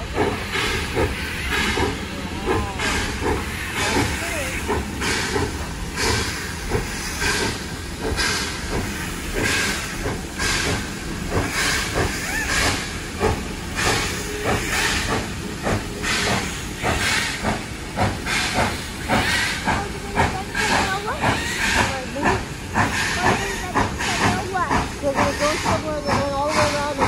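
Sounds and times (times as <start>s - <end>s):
steam hissing: 0.0s - 27.0s
steam locomotive chuffing: 0.0s - 27.0s.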